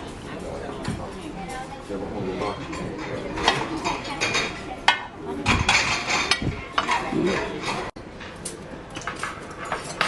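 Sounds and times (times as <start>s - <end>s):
dishes and cutlery clinking: 0.0s - 10.0s.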